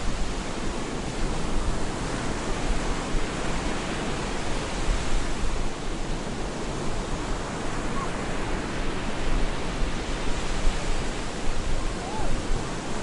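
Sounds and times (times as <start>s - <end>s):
stormy ocean surf: 0.0s - 13.0s.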